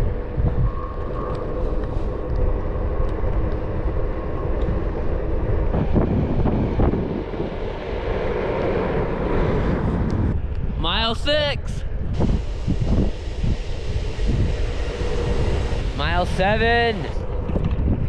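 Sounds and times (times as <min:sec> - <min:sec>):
faint steady whine: 0:00.0 - 0:18.0
wind buffeting microphone: 0:00.0 - 0:18.0.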